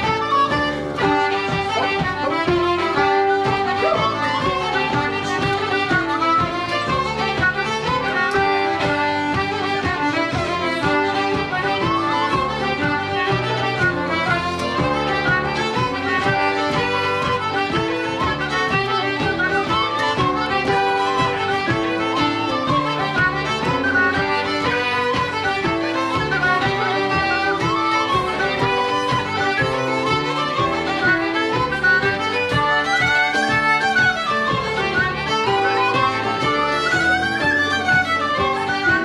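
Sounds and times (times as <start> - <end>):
concertina: 0.0 - 39.0
fiddle: 0.0 - 39.0
keyboard: 0.0 - 39.0.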